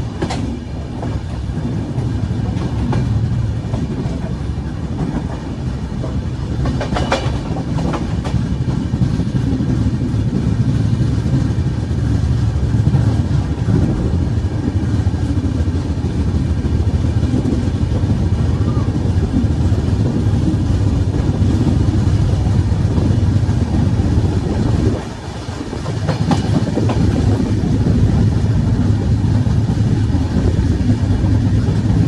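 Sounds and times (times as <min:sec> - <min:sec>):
train rumbling on rails: 0:00.0 - 0:32.0
train wheels clacking over track: 0:00.0 - 0:32.0.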